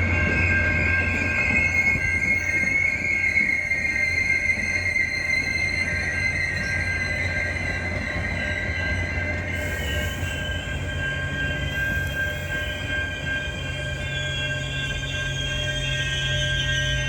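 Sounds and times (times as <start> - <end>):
train rumbling: 0.0 - 17.0
train wheels squealing: 0.0 - 17.0.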